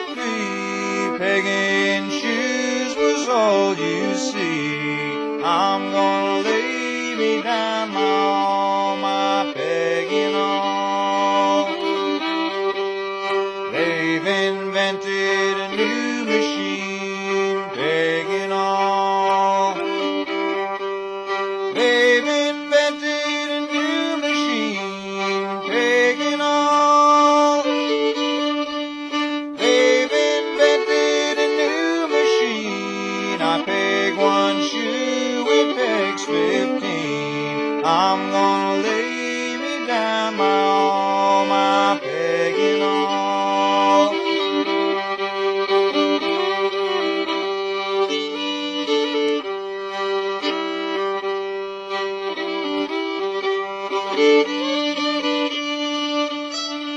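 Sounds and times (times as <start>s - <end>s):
bowed fiddle melody: 0.0s - 56.9s.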